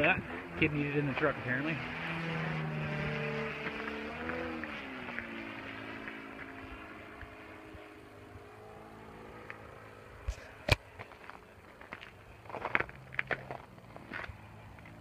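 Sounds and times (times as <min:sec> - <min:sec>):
model plane engine flying overhead: 0:00.0 - 0:15.0.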